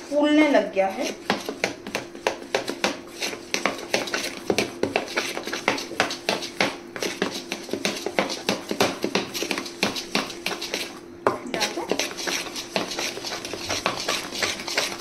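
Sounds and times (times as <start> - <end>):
spoon stirring batter: 0.0 - 15.0.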